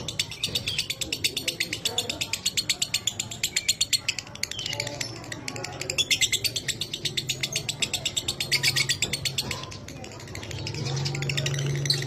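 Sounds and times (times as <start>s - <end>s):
lovebird chirping chatter: 0.0s - 12.0s.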